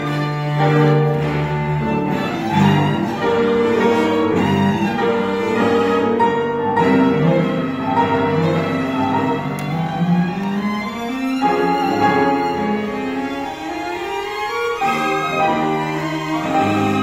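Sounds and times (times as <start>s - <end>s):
cello bowing: 0.0s - 17.0s
grand piano: 0.0s - 17.0s
violin bowing: 0.0s - 17.0s.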